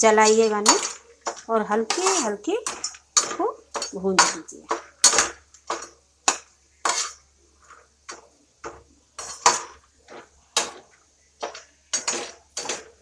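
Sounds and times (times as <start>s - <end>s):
ladle scraping metal pan: 0.2s - 7.8s, 9.2s - 13.0s.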